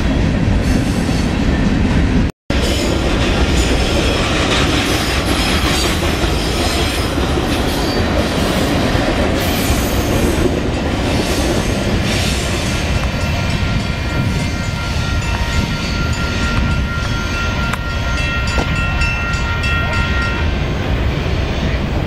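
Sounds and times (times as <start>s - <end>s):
freight train wheels clattering: 2.5s - 21.2s.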